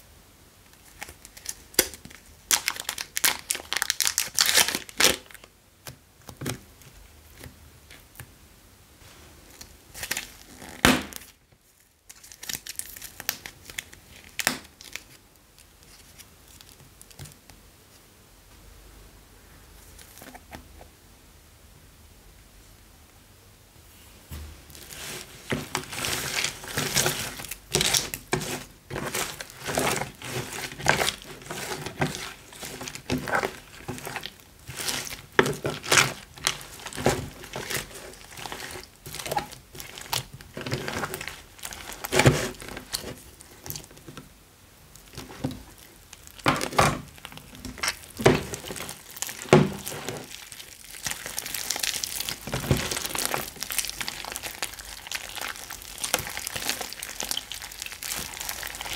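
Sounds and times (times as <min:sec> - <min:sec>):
sticky slime crackles and squishes: 0:00.7 - 0:08.3, 0:09.5 - 0:17.5, 0:24.7 - 0:58.9.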